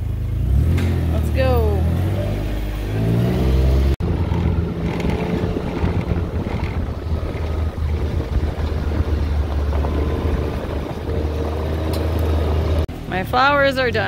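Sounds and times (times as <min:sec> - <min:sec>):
utility vehicle engine running: 0:00.0 - 0:14.0.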